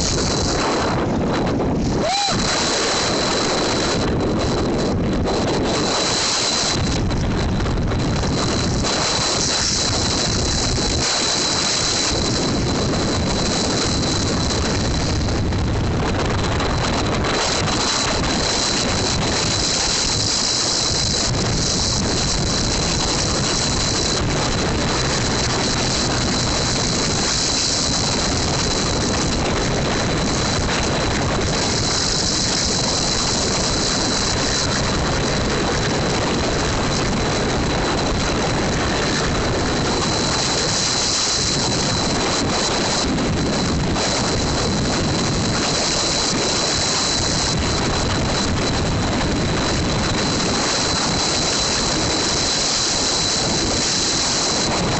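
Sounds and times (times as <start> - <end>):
steady high whine: 0.0 - 54.9
wind rushing on microphone: 0.0 - 54.9.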